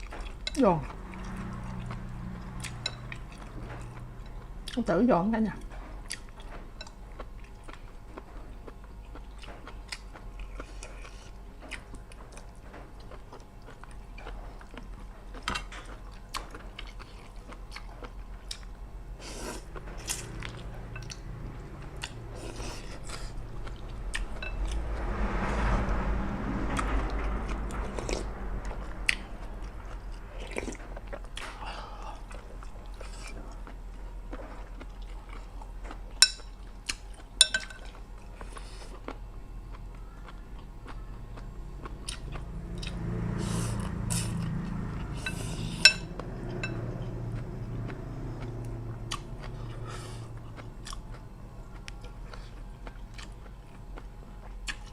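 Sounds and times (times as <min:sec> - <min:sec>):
chewing crunchy food: 0:00.0 - 0:04.9, 0:05.6 - 0:24.9, 0:26.8 - 0:54.9.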